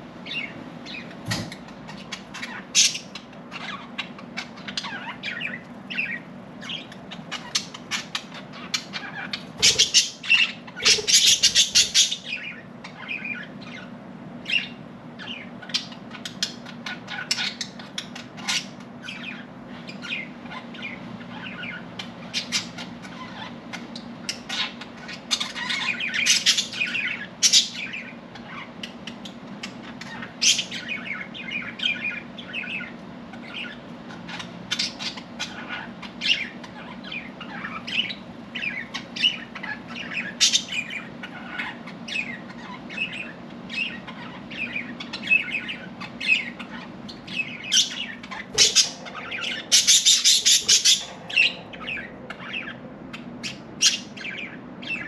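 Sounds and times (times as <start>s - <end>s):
steady low hum: 0.0s - 55.0s
budgerigars chirping and squawking: 0.2s - 55.0s.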